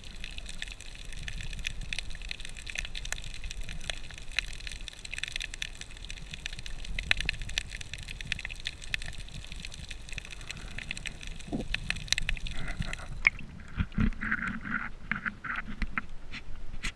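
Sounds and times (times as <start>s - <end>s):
crackle of sharp underwater clicks: 0.0s - 16.1s
low water rumble: 0.0s - 16.8s.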